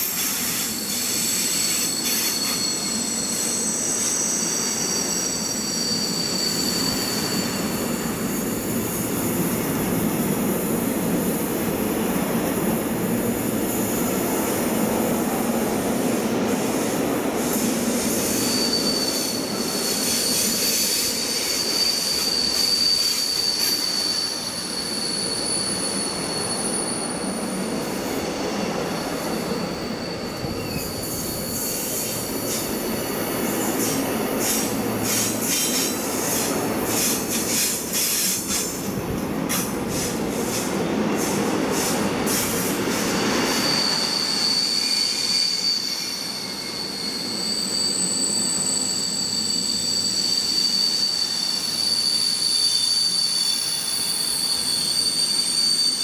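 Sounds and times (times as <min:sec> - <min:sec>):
high wheel squeal: 0:00.0 - 0:10.7, 0:16.6 - 0:38.9, 0:41.2 - 0:56.0
freight train wheels rolling on rail: 0:00.0 - 0:56.0.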